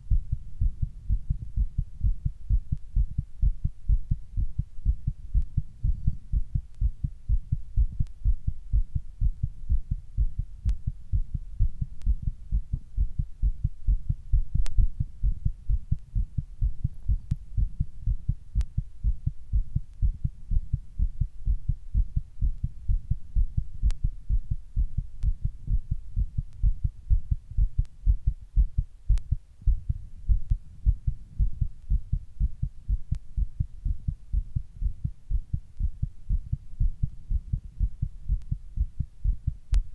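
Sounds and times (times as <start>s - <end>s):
fast heartbeat thumps: 0.0s - 39.9s.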